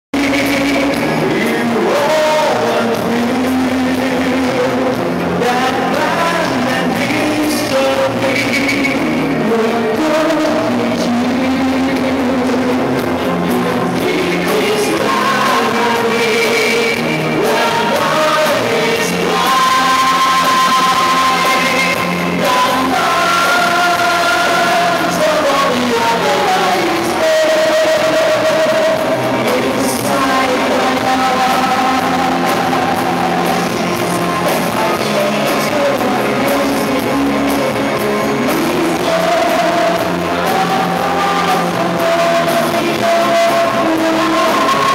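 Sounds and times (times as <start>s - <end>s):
person singing: 0.1s - 44.9s
live rock band playing: 0.2s - 44.9s.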